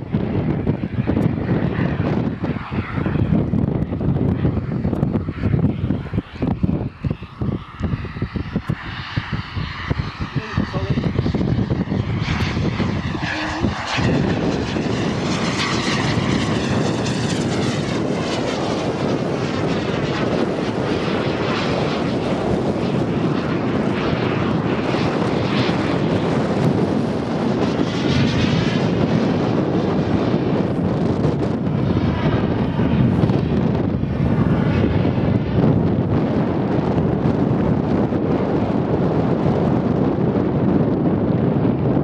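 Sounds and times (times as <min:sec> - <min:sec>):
model jet engines running: 0:00.0 - 0:42.0.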